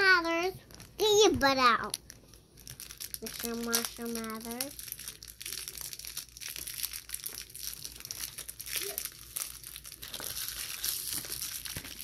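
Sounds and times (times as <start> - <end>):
crinkly plastic wrapping peeled: 0.0 - 12.0.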